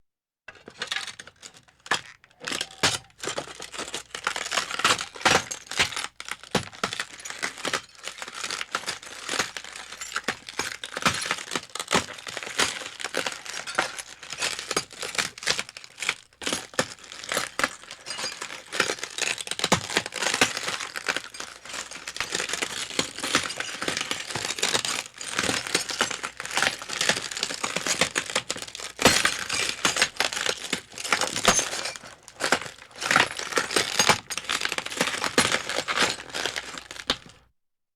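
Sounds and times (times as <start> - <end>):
glass breaking and crunching: 1.4 - 37.3.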